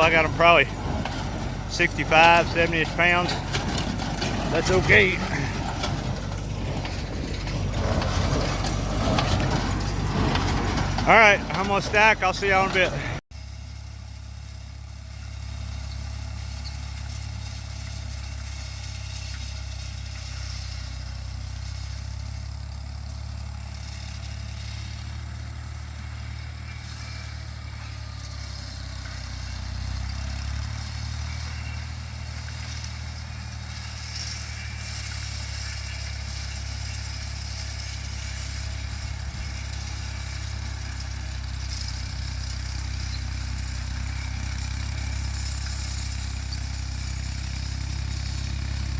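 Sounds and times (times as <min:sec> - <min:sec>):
square baler working: 0:00.0 - 0:48.9
tractor engine running: 0:00.0 - 0:48.9.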